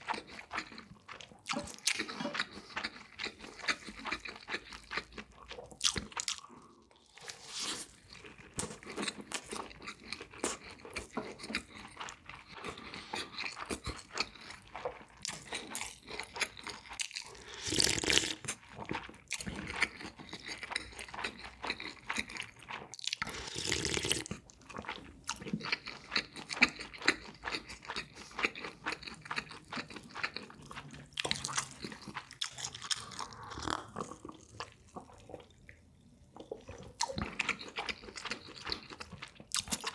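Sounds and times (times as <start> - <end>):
crunchy food chewing: 0.0 - 39.9.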